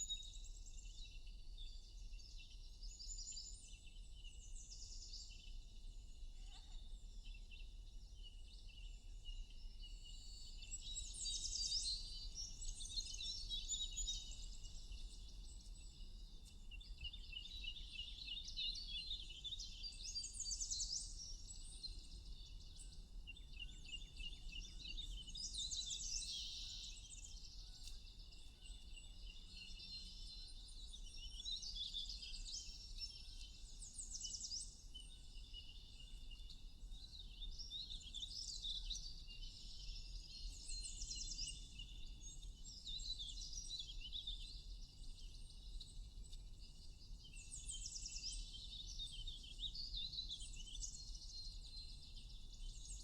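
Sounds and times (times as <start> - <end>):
songbirds chirping and singing: 0.8 - 53.0.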